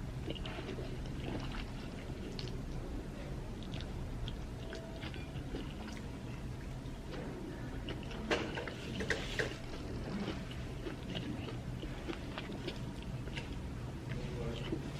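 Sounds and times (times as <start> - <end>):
steady low hum: 0.0 - 14.9
person chewing with wet smacks: 0.1 - 14.9.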